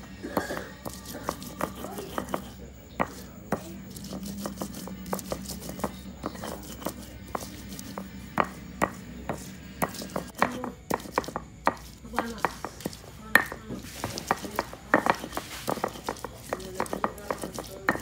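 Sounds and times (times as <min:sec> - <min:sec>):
chilies squashing: 0:00.0 - 0:18.0
stone pestle knocking on stone: 0:00.2 - 0:18.0.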